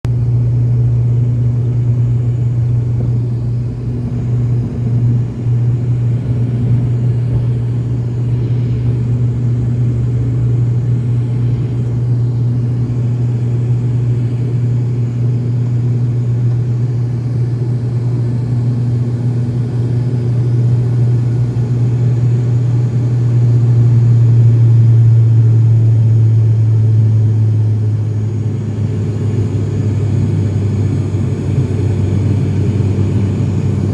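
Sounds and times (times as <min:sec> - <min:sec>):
propeller plane engines droning: 0:00.1 - 0:33.9.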